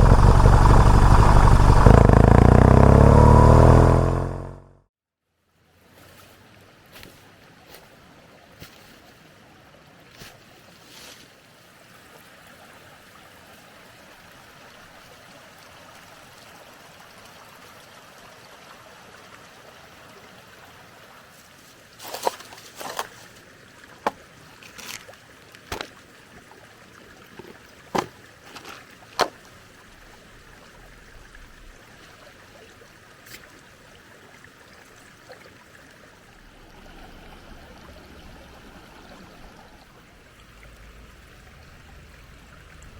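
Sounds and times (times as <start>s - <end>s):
mountain stream running: 0.0s - 4.2s, 5.8s - 42.9s.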